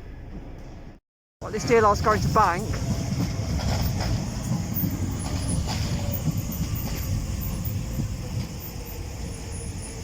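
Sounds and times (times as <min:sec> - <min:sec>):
train running low rumble: 0:00.0 - 0:10.0.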